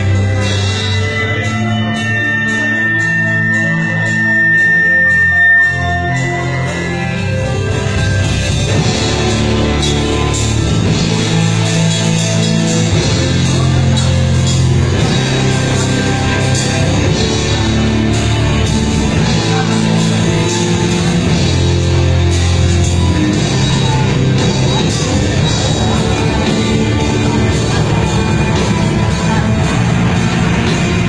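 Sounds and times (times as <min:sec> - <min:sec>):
live heavy rock band: 0:00.0 - 0:31.0.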